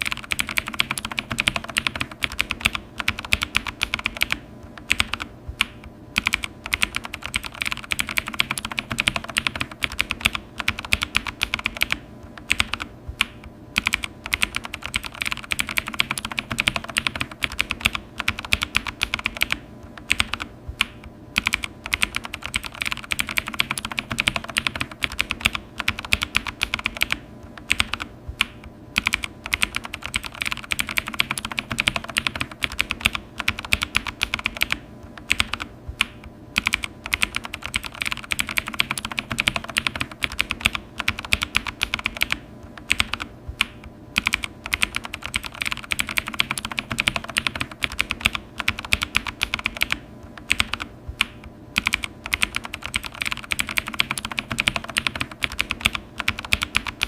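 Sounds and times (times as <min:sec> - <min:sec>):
keyboard typing clicks: 0:00.0 - 0:57.0.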